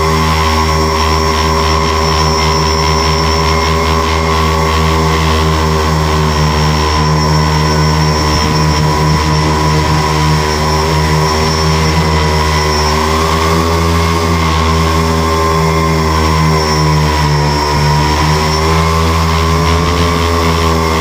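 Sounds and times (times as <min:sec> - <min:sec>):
drone motors and propellers whining: 0:00.0 - 0:21.0.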